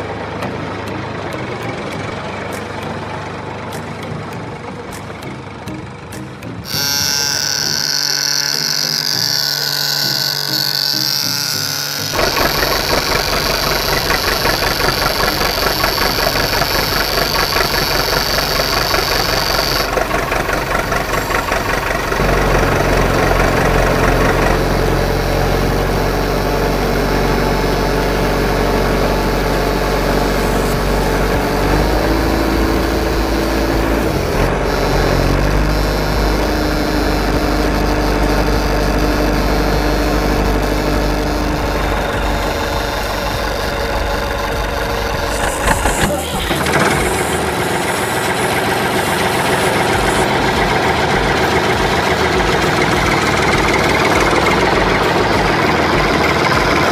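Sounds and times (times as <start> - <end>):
tractor engine chugging: 0.0 - 56.9
thin high whine: 6.6 - 56.9.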